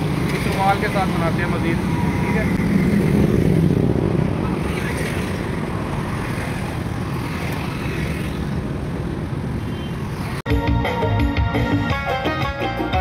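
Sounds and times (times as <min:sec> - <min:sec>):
cars and motorcycles passing: 0:00.0 - 0:13.0.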